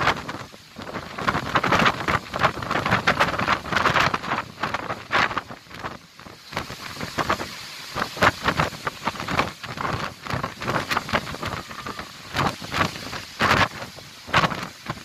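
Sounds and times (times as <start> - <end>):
strong wind gusting through trees: 0.0 - 15.0
wind buffeting microphone: 0.0 - 15.0.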